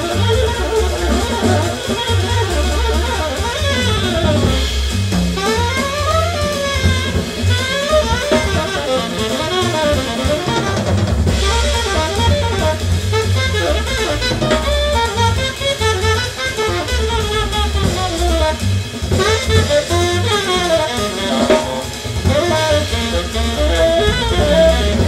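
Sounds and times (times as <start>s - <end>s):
drum kit: 0.0s - 25.0s
saxophone playing fast runs: 0.0s - 25.0s.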